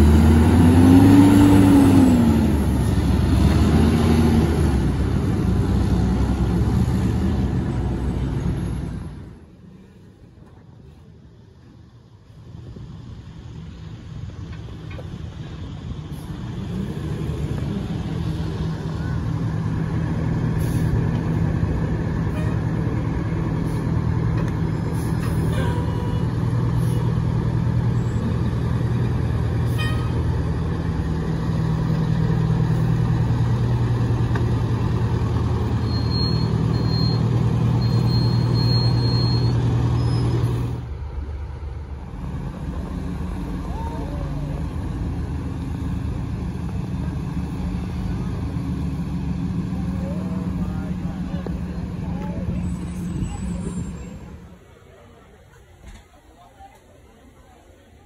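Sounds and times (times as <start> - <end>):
fire truck diesel engines driving past: 0.0 - 58.0.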